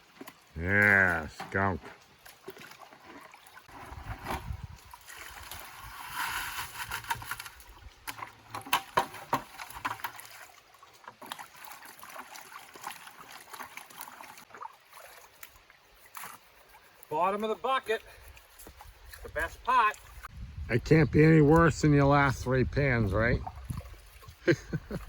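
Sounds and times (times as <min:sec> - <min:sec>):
water sloshing in a pan: 0:00.0 - 0:20.3.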